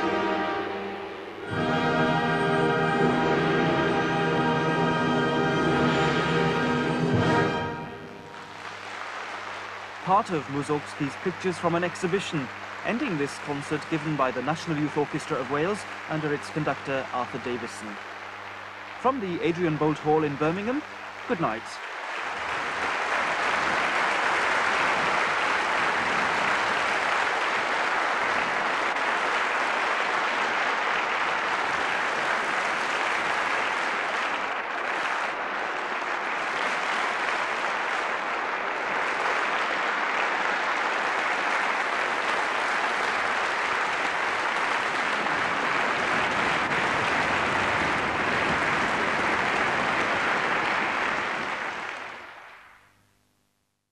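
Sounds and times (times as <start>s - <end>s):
large audience applauding: 0.0s - 52.9s.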